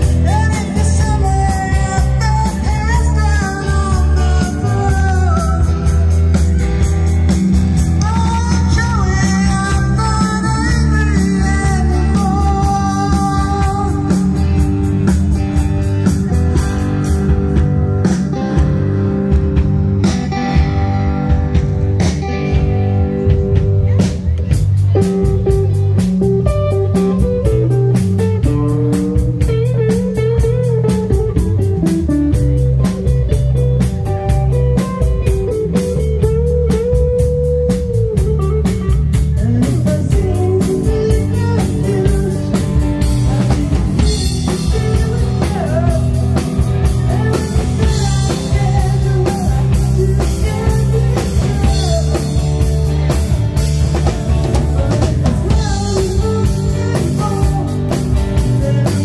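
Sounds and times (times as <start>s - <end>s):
drum kit steady beat: 0.0s - 59.0s
electric bass: 0.0s - 59.0s
electric guitar bending notes: 0.0s - 59.0s.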